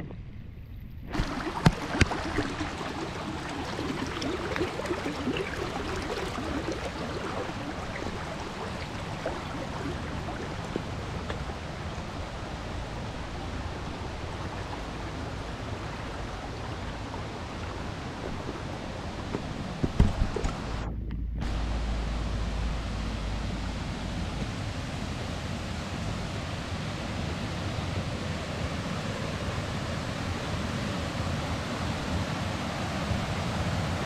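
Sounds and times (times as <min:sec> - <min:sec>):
stream water rushing: 0:01.1 - 0:34.0.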